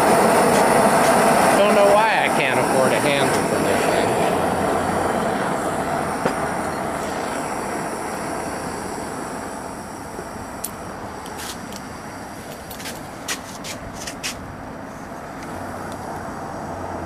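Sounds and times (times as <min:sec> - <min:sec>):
propane torches roaring: 0:00.0 - 0:17.0.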